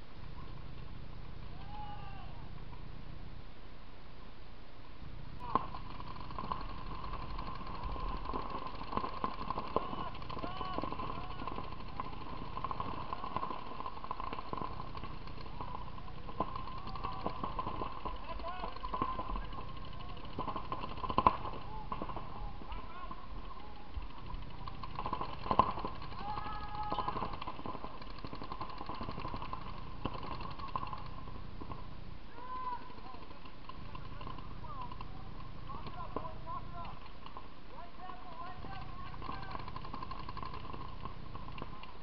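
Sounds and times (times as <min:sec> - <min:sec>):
steady background hum: 0:00.0 - 0:42.0
paintball markers firing: 0:05.4 - 0:42.0.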